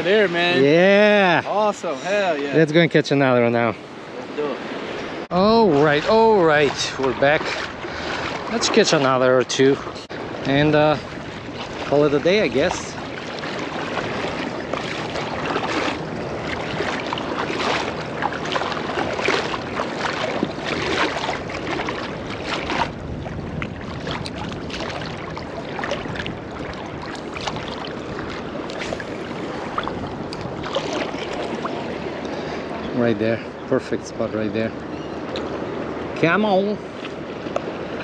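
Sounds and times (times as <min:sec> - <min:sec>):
water sloshing and lapping: 0:00.0 - 0:38.0
wind buffeting microphone: 0:03.6 - 0:38.0.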